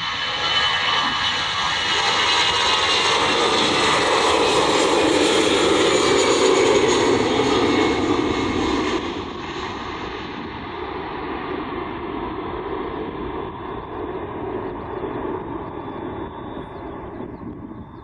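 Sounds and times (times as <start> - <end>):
jet engines at takeoff thrust: 0.0 - 18.0.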